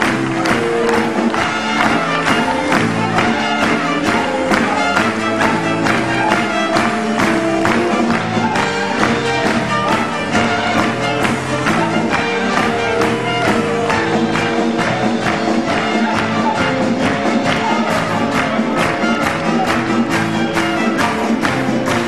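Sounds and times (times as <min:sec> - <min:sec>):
circus band playing: 0:00.0 - 0:22.0.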